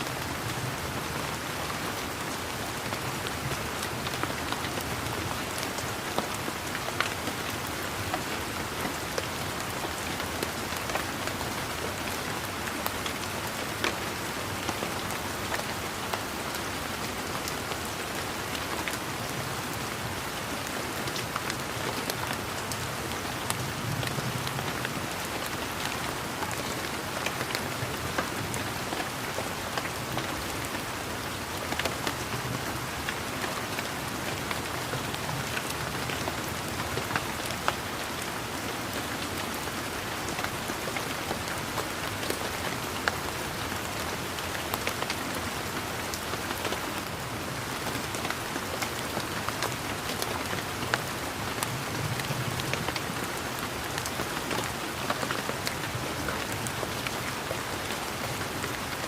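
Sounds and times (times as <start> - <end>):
steady rain: 0.0 - 59.0
rain drops ticking: 0.1 - 59.0.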